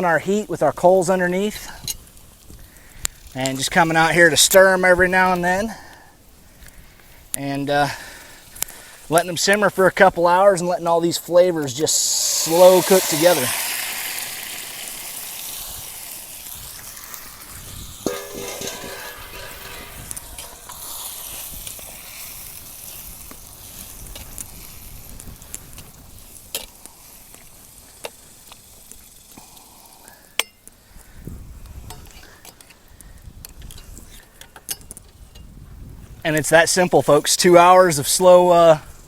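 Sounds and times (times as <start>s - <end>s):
beans sizzling and bubbling: 0.0s - 33.0s, 36.0s - 39.0s.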